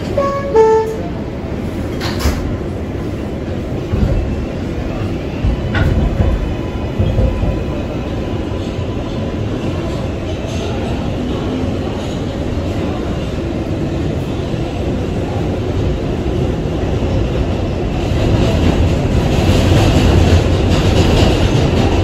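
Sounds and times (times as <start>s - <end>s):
subway wheels rumbling on rail: 0.0s - 22.0s.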